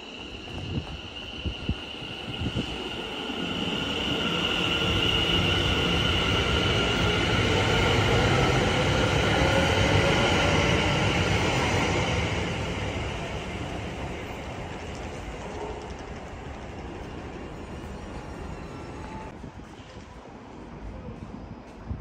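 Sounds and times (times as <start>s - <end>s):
electric train pulling away: 0.0s - 19.3s
rumble of train wheels: 0.0s - 22.0s.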